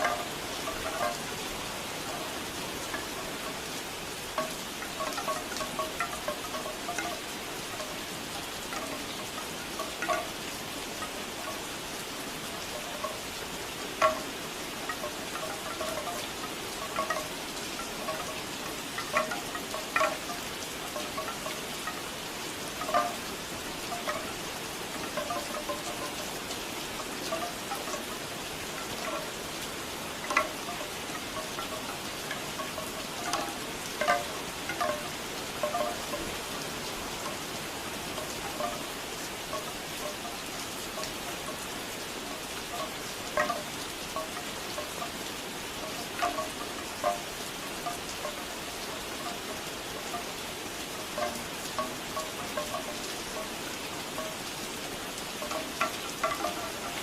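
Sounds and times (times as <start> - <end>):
bamboo wind chimes knocking: 0.0 - 57.0
steady rain: 0.0 - 57.0.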